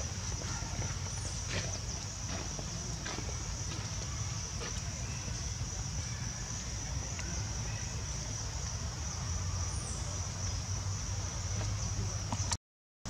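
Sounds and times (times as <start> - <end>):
insects buzzing: 0.0 - 12.5.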